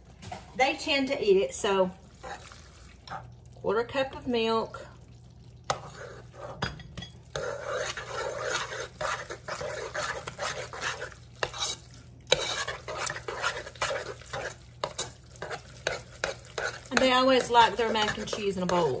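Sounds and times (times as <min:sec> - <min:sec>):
wet scraping of stirring: 0:01.6 - 0:19.0.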